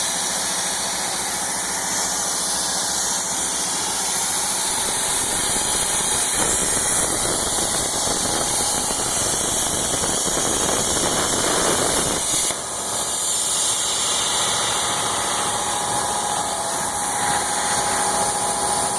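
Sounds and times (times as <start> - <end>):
plasma torch hissing: 1.3 - 18.9.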